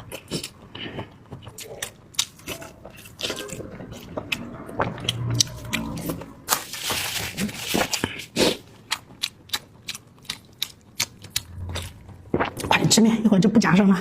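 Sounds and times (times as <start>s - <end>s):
mouth clicks and chewing: 0.0s - 6.4s, 7.7s - 12.8s.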